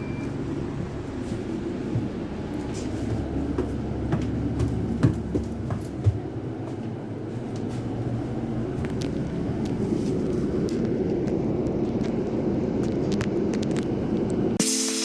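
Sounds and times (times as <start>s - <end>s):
bus engine and road rumble: 0.0s - 14.6s.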